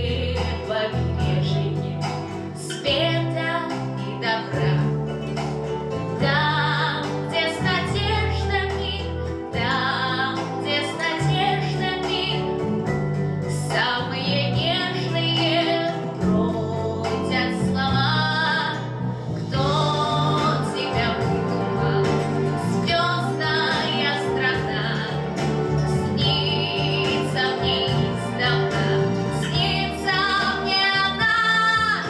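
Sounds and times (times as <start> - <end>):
girl singing into a microphone: 0.0 - 4.9, 6.2 - 12.6, 13.5 - 22.2, 22.8 - 25.2, 25.8 - 32.0
instrumental accompaniment: 0.0 - 32.0.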